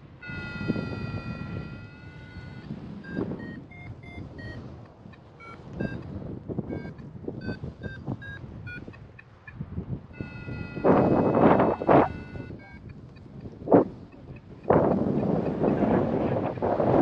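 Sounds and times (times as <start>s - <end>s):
wind gusts on microphone: 0.0s - 17.0s
variometer beeping: 0.2s - 16.7s.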